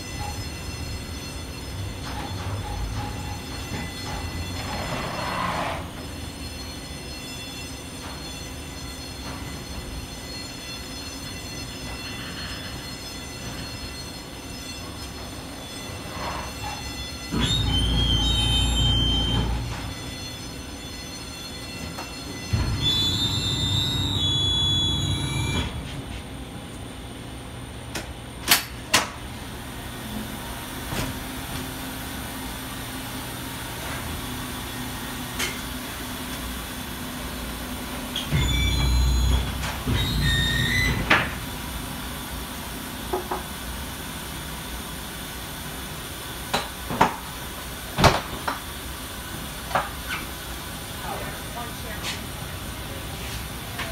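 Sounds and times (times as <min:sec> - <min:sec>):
jet bridge machinery rumbling and whining: 0:00.0 - 0:53.9.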